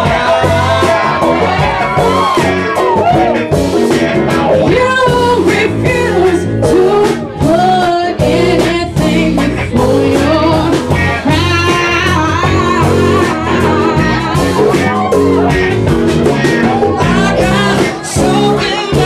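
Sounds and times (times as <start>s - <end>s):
person singing: 0.0s - 3.2s, 4.5s - 19.0s
bass: 0.0s - 19.0s
drums: 0.0s - 19.0s
electric guitar: 0.0s - 19.0s.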